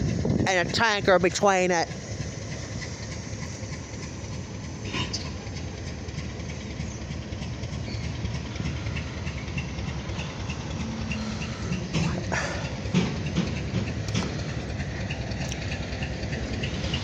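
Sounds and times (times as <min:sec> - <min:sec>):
train cars rumbling on track: 0:00.0 - 0:17.0.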